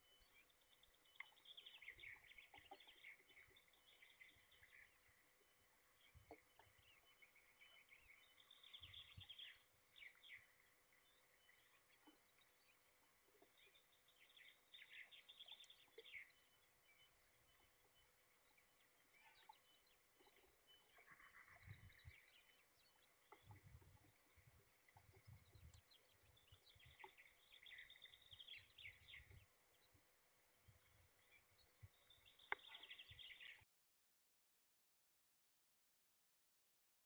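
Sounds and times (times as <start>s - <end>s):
songbirds chirping: 0.0s - 33.7s.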